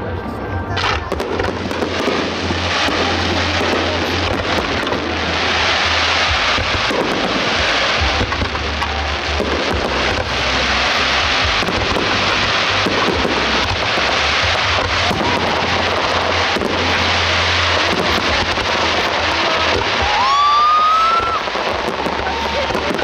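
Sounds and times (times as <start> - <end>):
fireworks bursting and crackling: 0.0 - 23.0.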